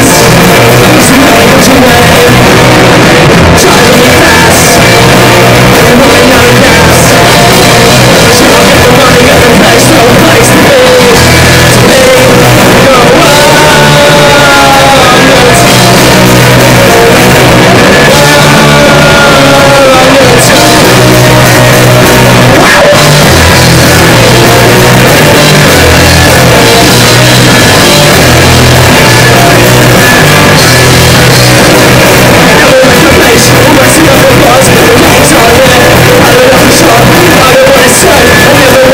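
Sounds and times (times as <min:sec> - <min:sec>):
bass guitar: 0:00.0 - 0:38.9
drum kit: 0:00.0 - 0:38.9
electric guitar: 0:00.0 - 0:38.9
person singing: 0:00.0 - 0:38.9.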